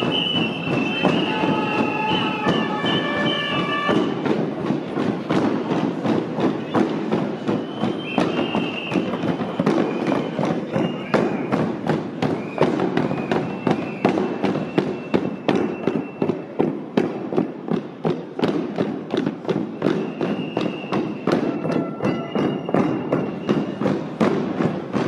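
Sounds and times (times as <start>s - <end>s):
crowd footsteps: 0.0s - 25.0s
hand drums marching rhythm: 0.0s - 25.0s
murmur of crowd: 0.0s - 25.0s.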